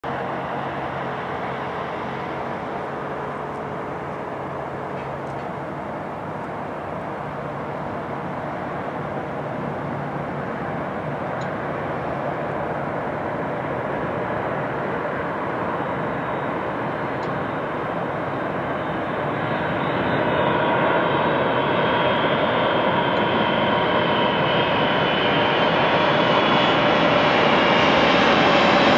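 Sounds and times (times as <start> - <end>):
high jet engine whine: 0.0 - 28.9
jet engines rumbling: 0.0 - 28.9.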